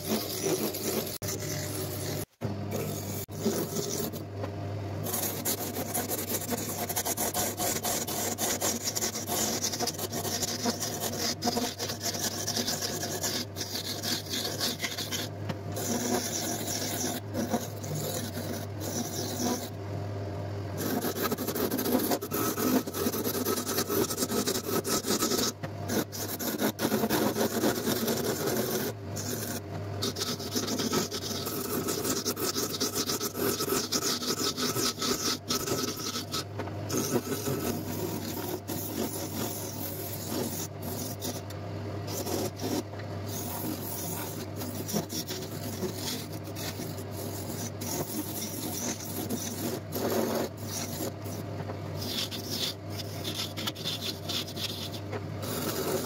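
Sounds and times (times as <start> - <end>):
tool scraping spinning wood: 0.0 - 4.4, 5.0 - 19.8, 20.8 - 41.5, 42.1 - 56.0.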